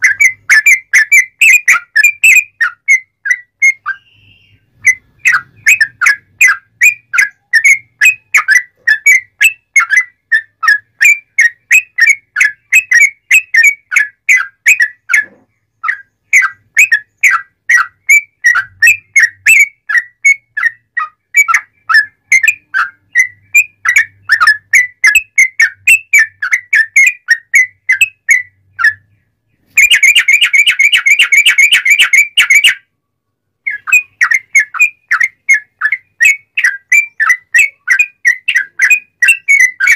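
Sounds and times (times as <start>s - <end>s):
bulbul singing whistled notes: 0.0s - 32.9s, 33.6s - 39.9s
buzzy bird trill: 0.0s - 32.9s, 33.6s - 39.9s.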